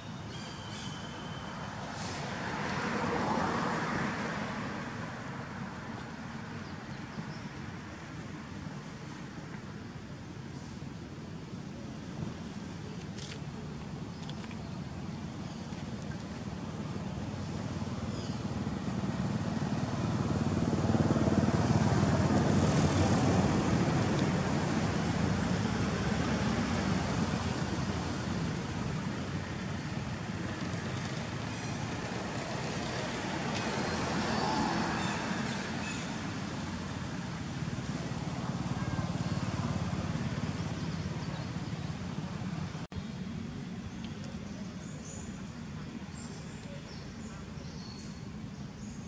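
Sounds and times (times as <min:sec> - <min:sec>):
low rumble of passing vehicles: 0:00.0 - 0:49.0.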